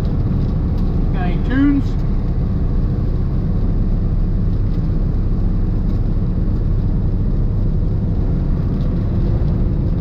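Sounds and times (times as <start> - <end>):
diesel engine running: 0.0 - 10.0
road noise on wet road: 0.0 - 10.0.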